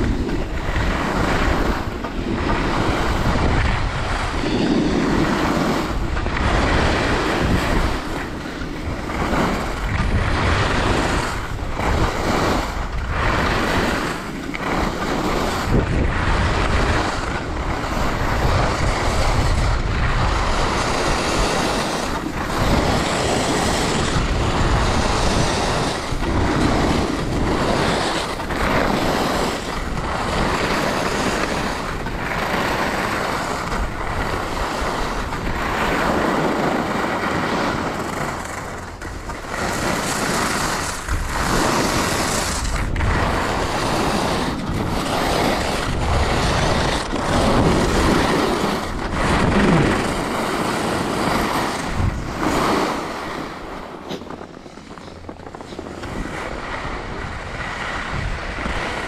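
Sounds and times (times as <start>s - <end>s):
skis scraping on snow: 0.0s - 59.0s
wind on microphone: 0.0s - 59.0s.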